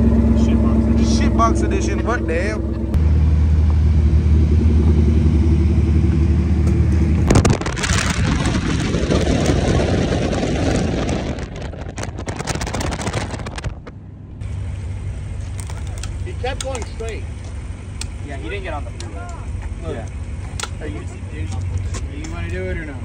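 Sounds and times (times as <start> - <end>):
car engine idling: 0.0 - 9.6, 11.5 - 23.0
car driving at highway speed: 0.0 - 23.0.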